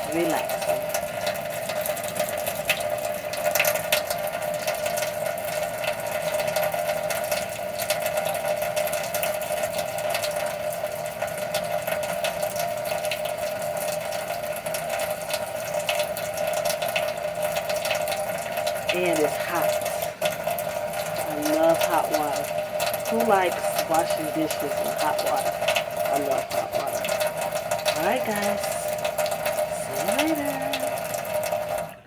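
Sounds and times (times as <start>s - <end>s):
tap water splashing into sink: 0.0s - 32.0s.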